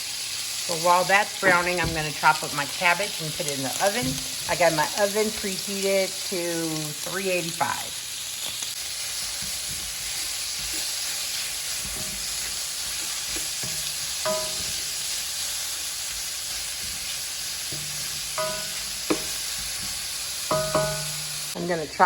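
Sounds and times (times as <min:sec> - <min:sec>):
bacon sizzling in a frying pan: 0:00.0 - 0:22.0.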